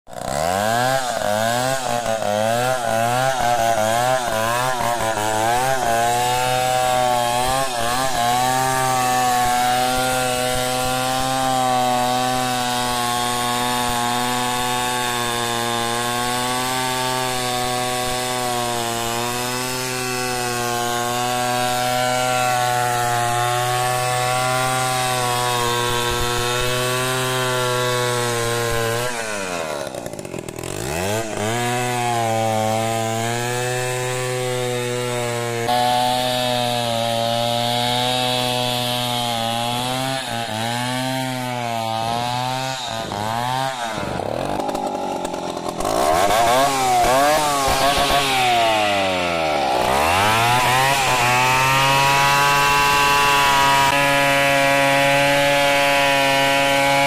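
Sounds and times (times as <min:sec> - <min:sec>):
chainsaw cutting log: 0:00.1 - 0:57.0.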